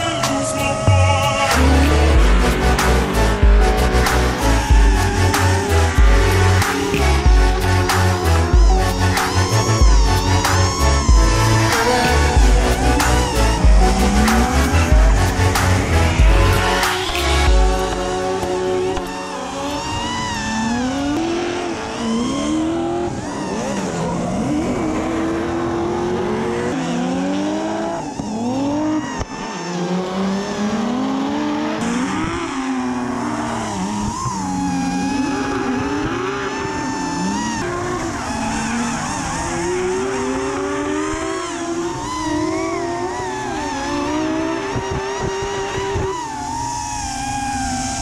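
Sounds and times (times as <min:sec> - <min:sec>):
car engines revving: 0:00.0 - 0:48.0
drone motors whining: 0:00.0 - 0:48.0.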